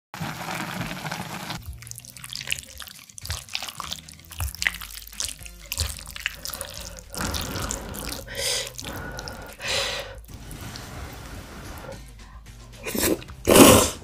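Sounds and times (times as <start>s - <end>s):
noodles stirred with wet hiss: 0.2s - 13.9s
wet noodle squelches: 0.3s - 12.0s.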